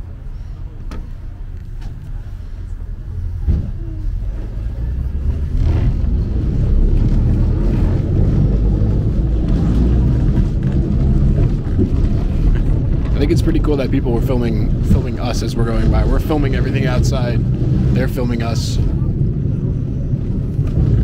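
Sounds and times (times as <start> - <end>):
tram rolling on rails: 0.0 - 21.0.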